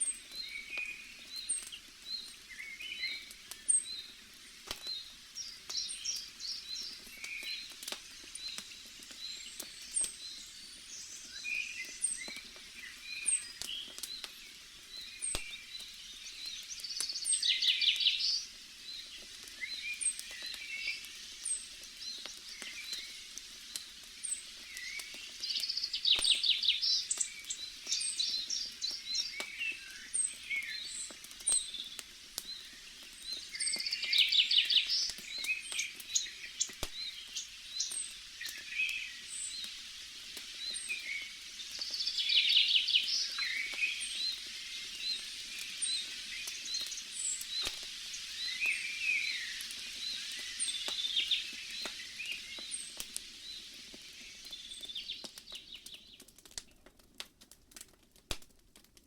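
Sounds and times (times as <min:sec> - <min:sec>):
birds chirping: 0:00.0 - 0:56.3
campfire crackling and popping: 0:00.0 - 0:59.0.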